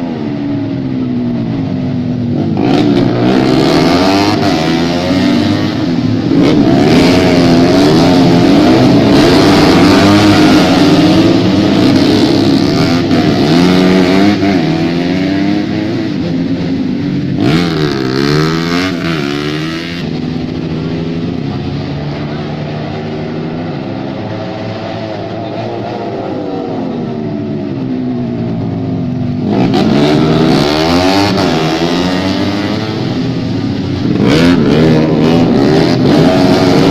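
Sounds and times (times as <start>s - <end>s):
racing motorcycles at high revs: 0.0s - 36.9s.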